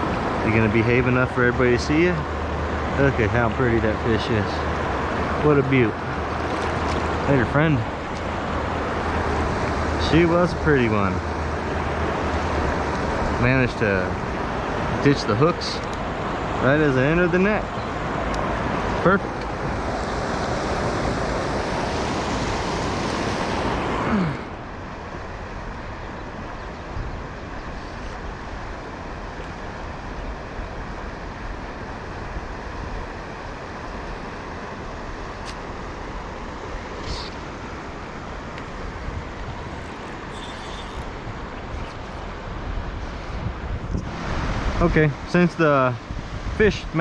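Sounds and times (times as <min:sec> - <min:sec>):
river current rushing: 0:00.0 - 0:47.0.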